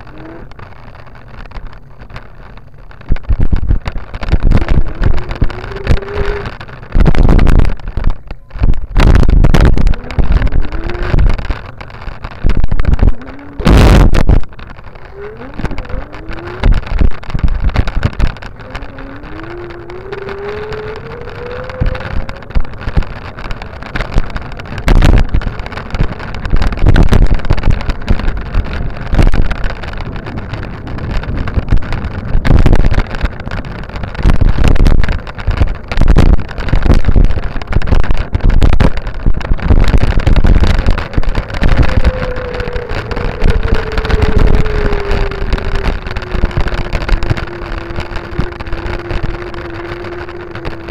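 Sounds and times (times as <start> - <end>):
whine falling in pitch: 0.0 - 50.9
whine rising in pitch: 0.0 - 50.9
wind buffeting microphone: 0.0 - 50.9.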